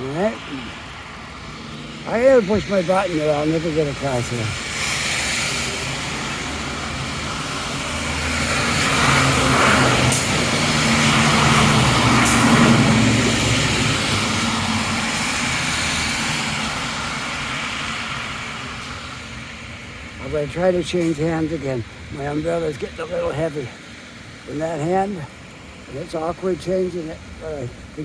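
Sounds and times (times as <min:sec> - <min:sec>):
heavy vehicle passing: 0:00.0 - 0:28.0
street traffic passing: 0:00.0 - 0:28.0.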